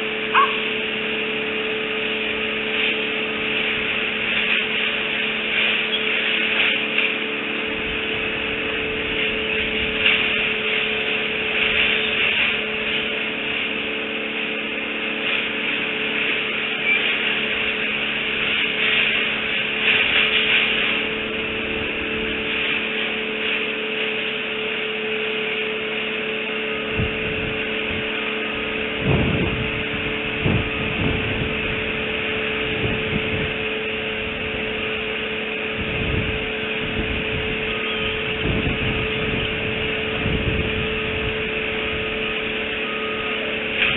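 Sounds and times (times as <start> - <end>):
steady electrical hum: 0.0 - 43.9.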